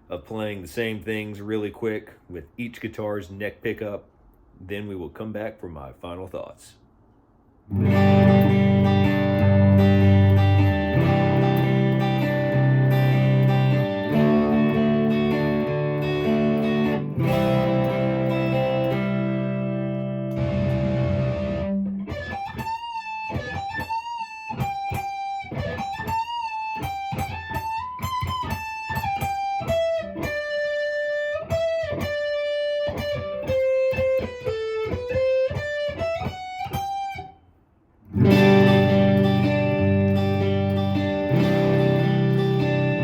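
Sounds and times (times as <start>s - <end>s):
strummed electric guitar chords: 7.7s - 37.3s, 38.1s - 43.0s
electric guitar melody with bends: 7.7s - 37.4s, 38.1s - 43.0s.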